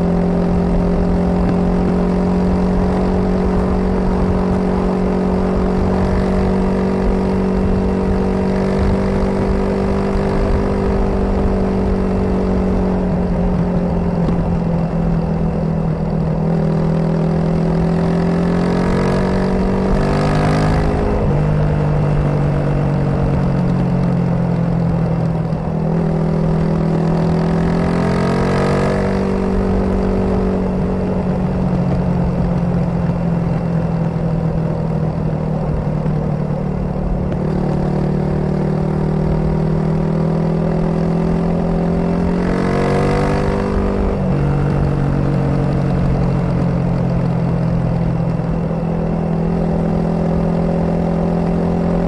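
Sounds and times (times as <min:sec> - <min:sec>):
motorcycle engine cruising and revving: 0:00.0 - 0:52.0.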